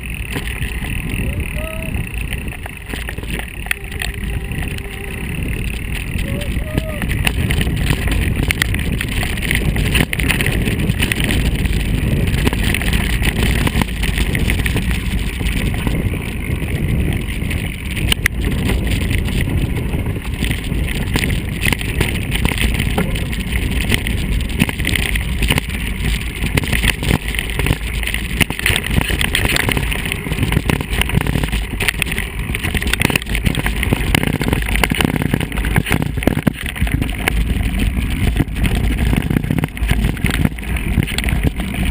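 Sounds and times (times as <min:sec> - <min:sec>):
mountain bike rattling over rough ground: 0:00.0 - 0:41.9
wind noise on microphone: 0:00.0 - 0:41.9.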